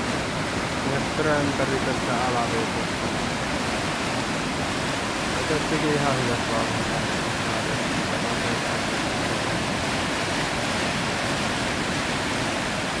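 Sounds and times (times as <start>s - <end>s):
river rapids rushing over rocks: 0.0s - 13.0s.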